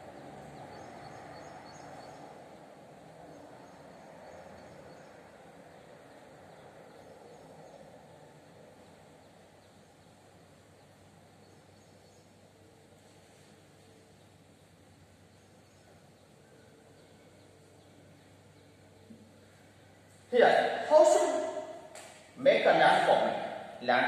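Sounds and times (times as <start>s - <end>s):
faint room noise: 0.0s - 24.0s.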